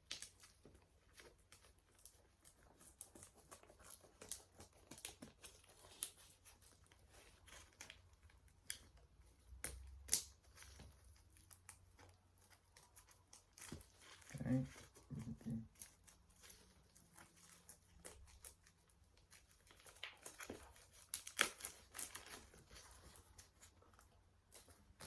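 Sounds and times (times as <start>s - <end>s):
packaging rustling and crinkling: 0.0s - 25.0s.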